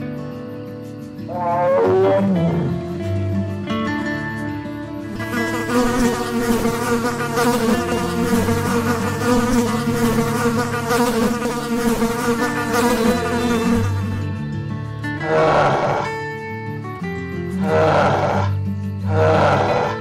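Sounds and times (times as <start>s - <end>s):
flying insect buzzing: 0.0s - 16.4s, 17.2s - 20.0s.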